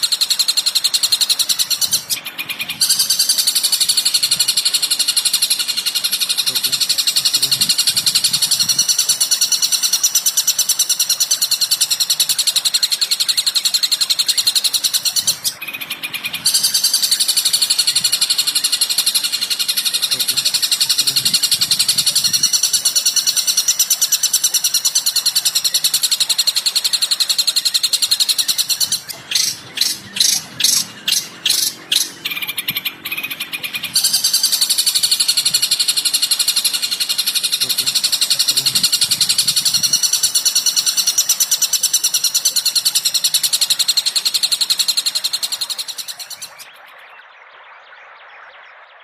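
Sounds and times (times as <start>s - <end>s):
songbird chattering and trilling: 0.0s - 47.2s
sharp bird calls: 0.0s - 49.0s.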